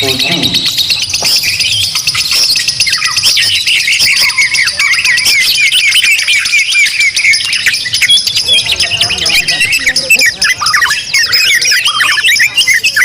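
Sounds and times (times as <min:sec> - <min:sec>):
caged birds singing: 0:00.0 - 0:13.0.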